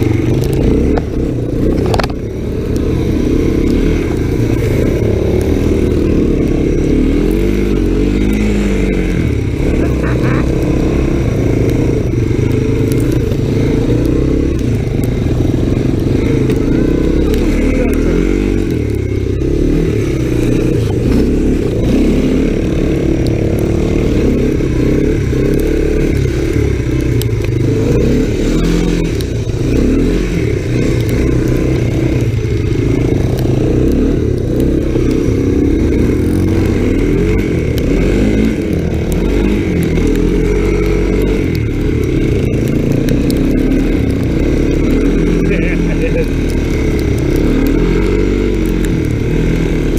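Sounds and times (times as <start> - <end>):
off-road motorcycle engine revving: 0.0 - 49.9.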